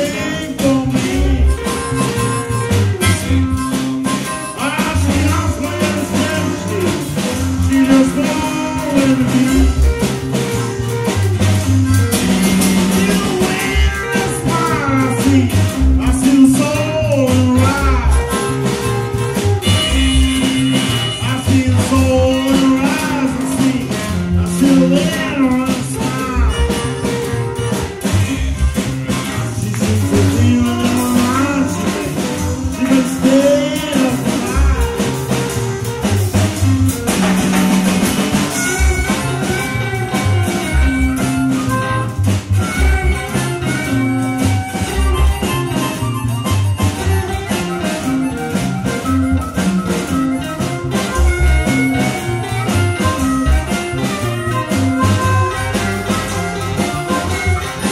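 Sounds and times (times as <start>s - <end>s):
electric guitar: 0.0s - 57.9s
live rock band playing: 0.0s - 57.9s.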